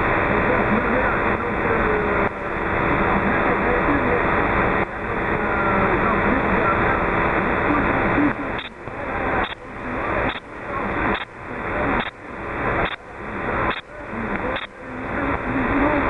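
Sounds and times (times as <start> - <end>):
pulsing radio static: 0.0 - 16.0.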